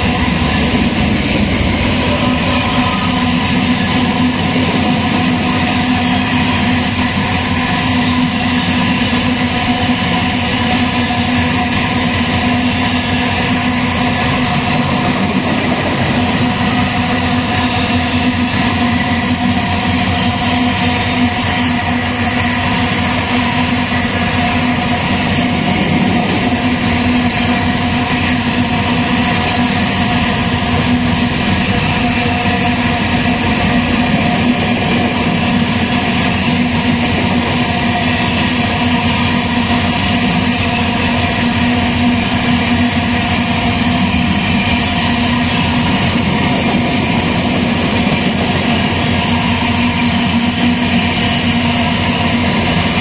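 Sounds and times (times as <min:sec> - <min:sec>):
diesel locomotive engine running: 0:00.0 - 0:53.0
rumble of rolling freight cars: 0:00.0 - 0:53.0.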